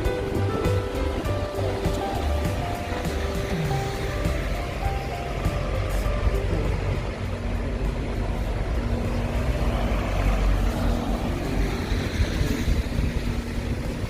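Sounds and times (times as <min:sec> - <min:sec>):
engine hum: 0:00.0 - 0:14.0
traffic rumble: 0:00.0 - 0:14.0.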